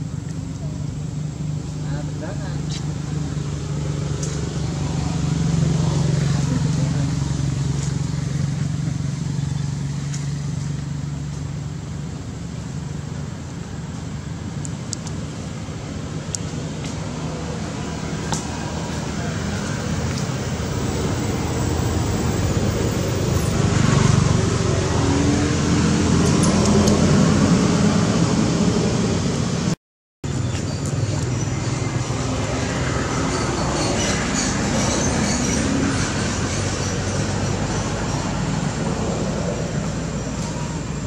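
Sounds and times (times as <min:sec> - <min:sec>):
motor vehicle noise: 0:00.0 - 0:41.0.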